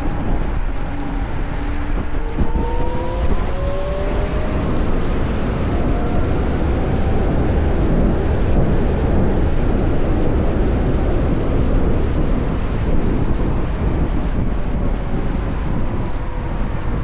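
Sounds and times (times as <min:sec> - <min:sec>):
traffic: 0:00.0 - 0:17.0
wind buffeting microphone: 0:00.0 - 0:17.0.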